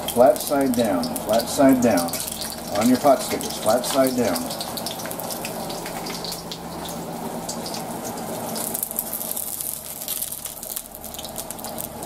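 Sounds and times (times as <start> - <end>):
dumplings sizzling in oil: 0.0 - 12.0
spattering oil crackles: 0.0 - 12.0.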